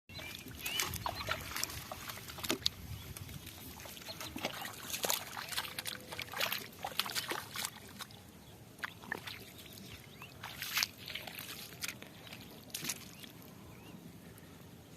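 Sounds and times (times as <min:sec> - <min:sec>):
muddy water splashing: 0:00.1 - 0:13.6.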